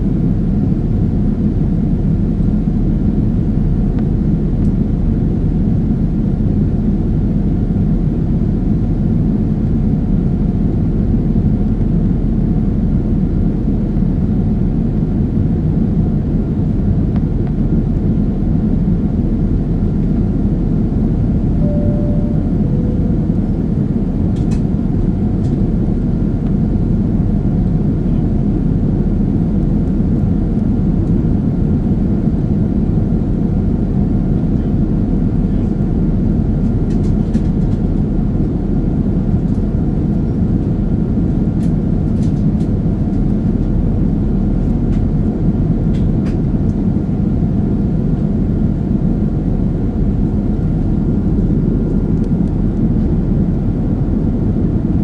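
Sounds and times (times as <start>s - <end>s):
aircraft engines droning: 0.1s - 55.0s.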